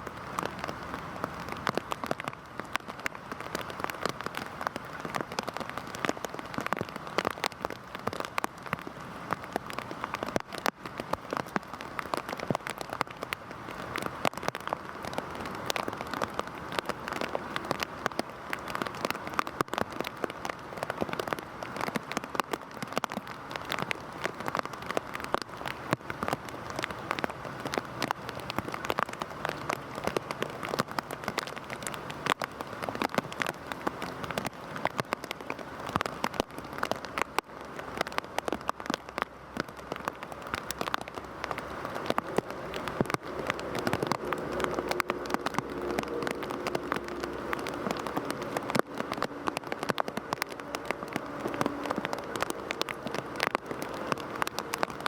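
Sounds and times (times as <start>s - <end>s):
heavy rain on a surface: 0.0s - 55.0s.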